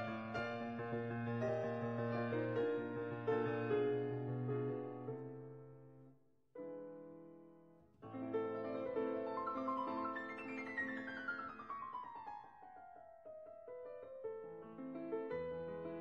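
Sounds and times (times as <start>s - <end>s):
piano music: 0.0s - 5.8s, 8.0s - 16.0s.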